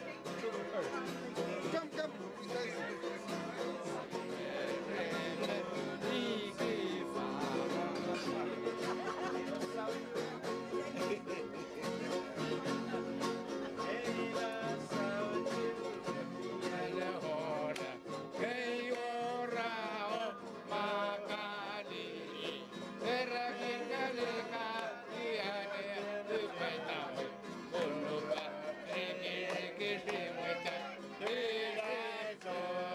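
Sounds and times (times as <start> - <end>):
strummed string instruments: 0.0 - 32.9
people singing: 2.7 - 9.5, 10.7 - 32.9.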